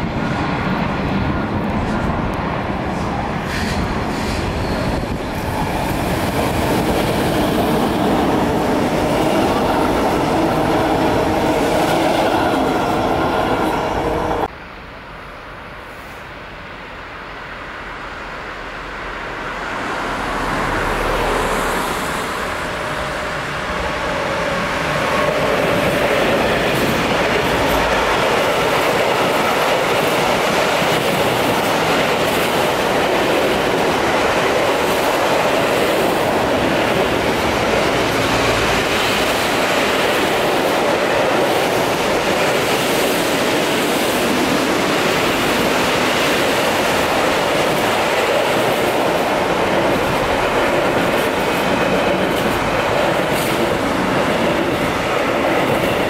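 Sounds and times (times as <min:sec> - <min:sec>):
freight train rolling rumble: 0:00.0 - 0:56.0.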